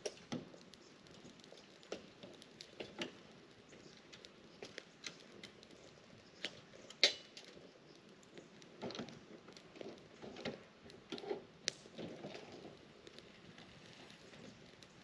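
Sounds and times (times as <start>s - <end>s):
campfire pops and snaps: 0.0s - 15.0s
soft rush of flames: 0.0s - 15.0s.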